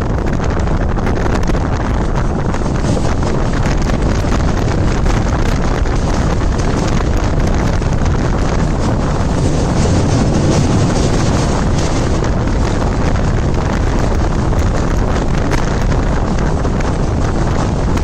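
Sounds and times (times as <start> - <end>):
train rumbling across bridge: 0.0 - 18.0
wind buffeting microphone: 0.0 - 18.0.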